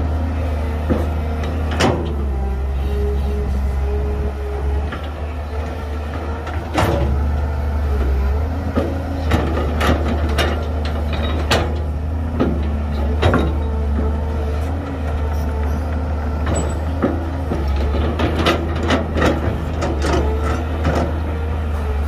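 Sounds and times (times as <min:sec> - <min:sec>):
heavy diesel machinery droning: 0:00.0 - 0:22.0.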